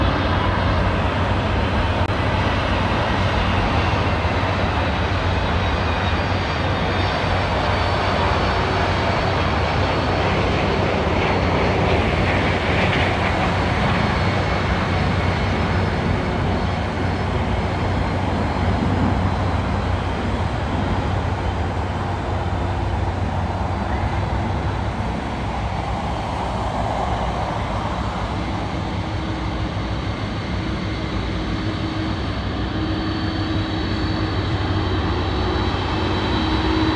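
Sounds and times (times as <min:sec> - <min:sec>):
jet engines rumbling and whining: 0:00.0 - 0:36.9.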